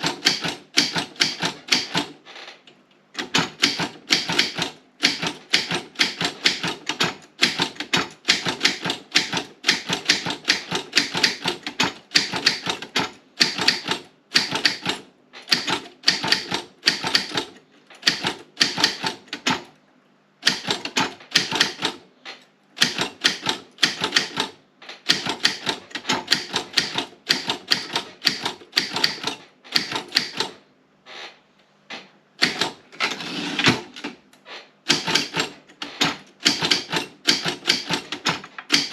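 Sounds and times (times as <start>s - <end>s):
typewriter typing: 0.0s - 2.6s, 3.2s - 19.7s, 20.4s - 30.6s, 31.9s - 34.2s, 34.8s - 38.9s.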